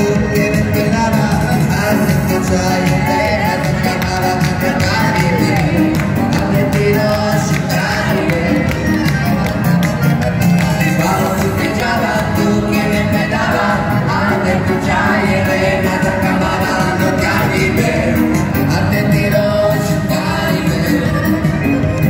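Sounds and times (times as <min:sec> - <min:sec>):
man singing into a microphone: 0:00.0 - 0:09.3, 0:10.6 - 0:22.0
live band on electronic keyboards: 0:00.0 - 0:22.0.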